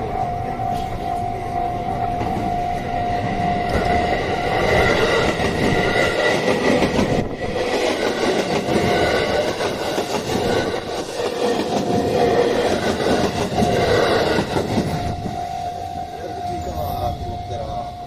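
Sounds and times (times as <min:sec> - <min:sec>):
crossing warning bell: 0:00.0 - 0:18.0
train wheels rumbling on rail: 0:00.0 - 0:18.0.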